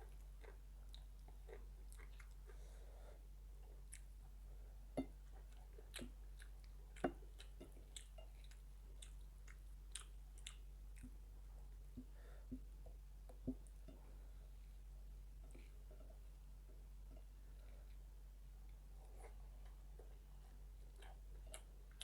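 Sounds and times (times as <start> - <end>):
person chewing with wet mouth sounds: 0.0 - 14.7, 15.4 - 22.0.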